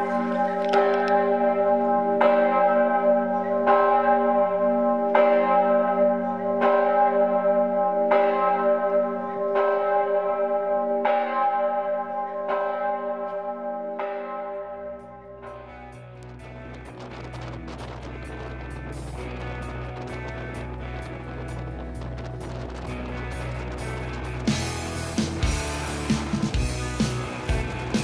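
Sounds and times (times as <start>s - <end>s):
church bell tolling: 0.0s - 24.9s.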